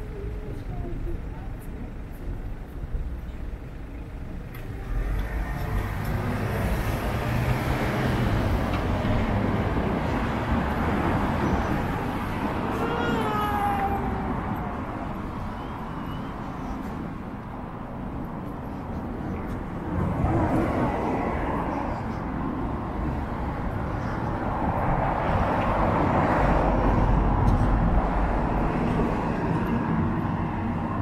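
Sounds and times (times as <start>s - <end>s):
street traffic noise: 0.0s - 31.0s.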